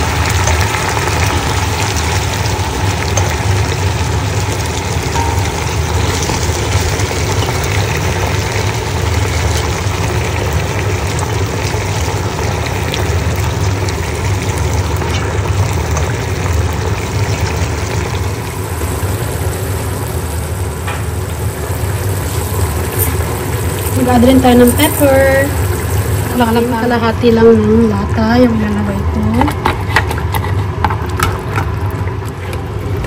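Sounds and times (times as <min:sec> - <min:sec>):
broth simmering: 0:00.0 - 0:33.0.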